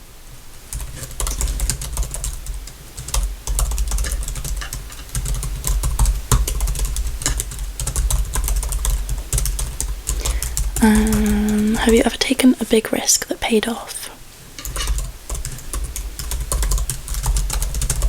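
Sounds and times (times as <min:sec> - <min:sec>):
typing on computer keyboard: 0:00.7 - 0:12.0, 0:14.6 - 0:18.0.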